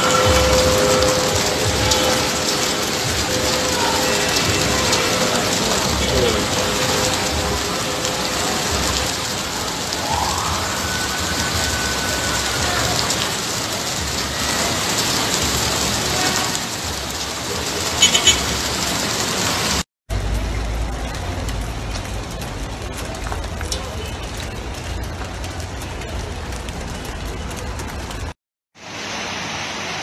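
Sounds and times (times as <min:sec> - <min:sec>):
heavy rain and hail: 0:00.0 - 0:30.0.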